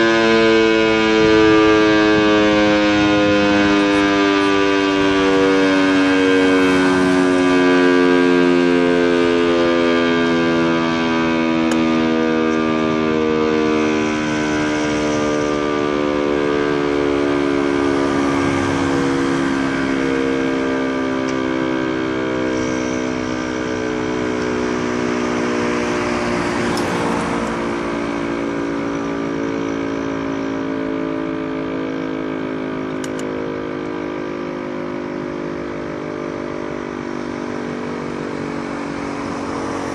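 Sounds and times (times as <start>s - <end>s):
passing vehicle: 0.0s - 39.9s
siren winding down: 0.0s - 39.9s.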